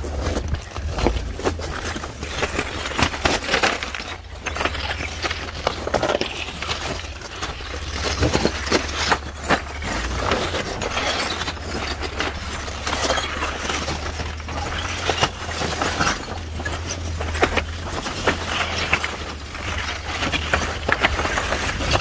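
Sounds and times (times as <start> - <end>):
stones crunching under tyres: 0.0 - 22.0
truck engine humming: 0.0 - 22.0.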